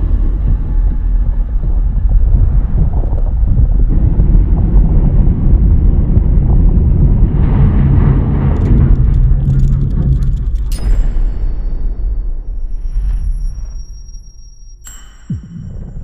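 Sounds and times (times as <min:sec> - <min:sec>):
low rumbling drone: 0:00.0 - 0:16.0
steady low hum: 0:00.0 - 0:16.0.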